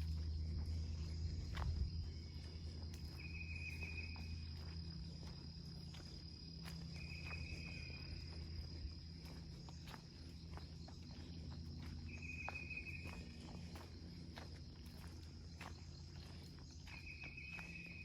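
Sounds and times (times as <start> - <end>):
insects droning: 0.0 - 18.0
light footsteps on trail: 0.0 - 18.0.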